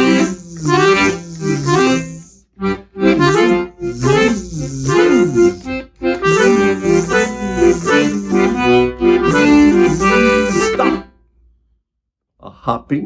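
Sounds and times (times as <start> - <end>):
accordion playing: 0.0 - 11.1.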